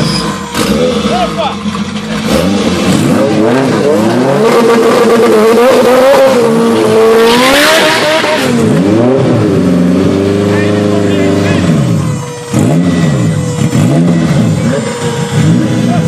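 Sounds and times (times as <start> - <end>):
car engines revving: 0.0 - 16.0
tire squeal: 0.0 - 16.0.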